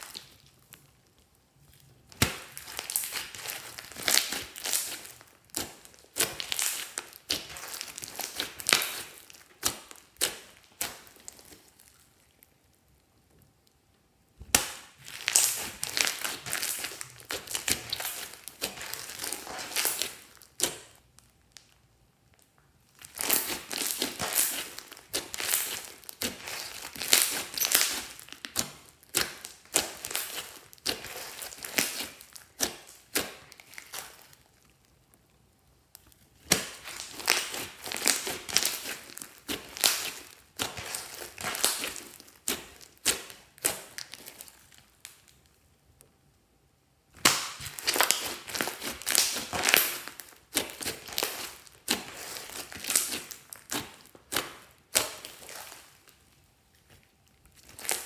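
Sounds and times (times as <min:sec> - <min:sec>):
slime kneaded with sticky crackling: 0:00.0 - 0:46.4, 0:47.0 - 0:58.0.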